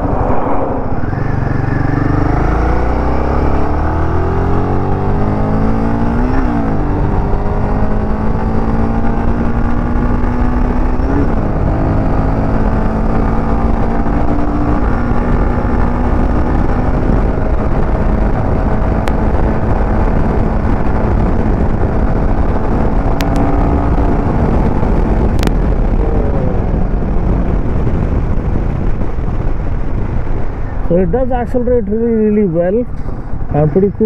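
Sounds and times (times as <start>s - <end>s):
motorcycle engine accelerating: 0.0s - 31.2s
wind rush on microphone: 0.0s - 34.0s.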